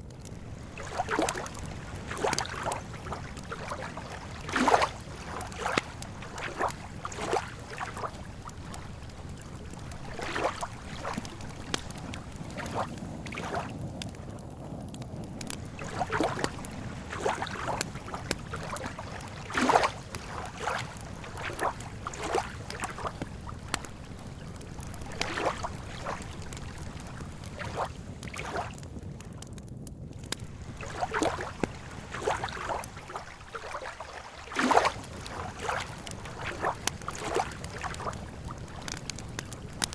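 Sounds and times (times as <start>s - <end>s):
waves lapping at shore: 0.0s - 29.4s, 30.2s - 39.9s
low wind rumble: 0.0s - 39.9s.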